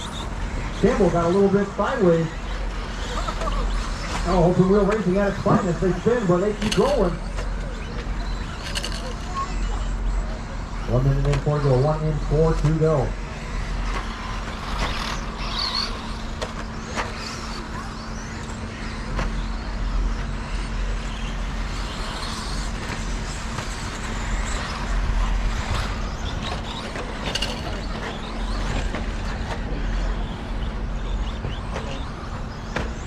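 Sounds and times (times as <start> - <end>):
rc truck motor whine: 0.0 - 33.0.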